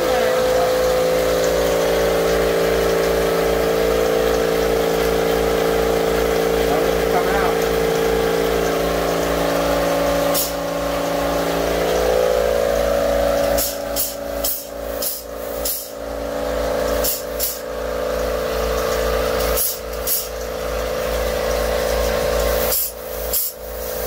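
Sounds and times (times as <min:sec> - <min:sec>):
dispensing gun motor hum: 0:00.0 - 0:24.0.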